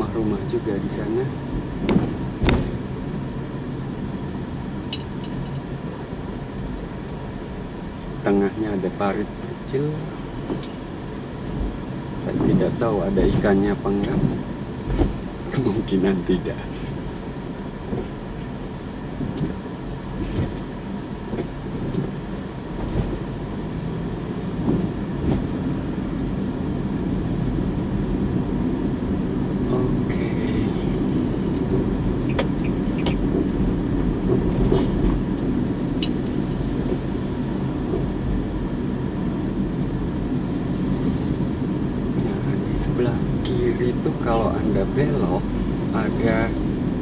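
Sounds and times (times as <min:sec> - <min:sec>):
car engine and tyre rumble: 0:00.0 - 0:47.0.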